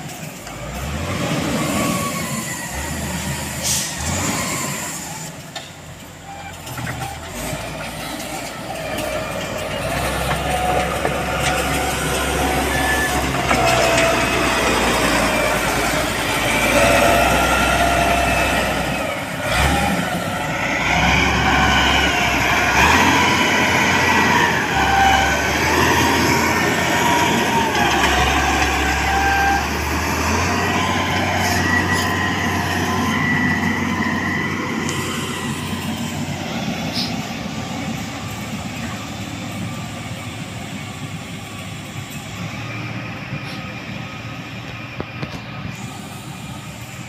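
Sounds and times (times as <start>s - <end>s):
diesel engine rumbling under load: 0.0s - 47.0s.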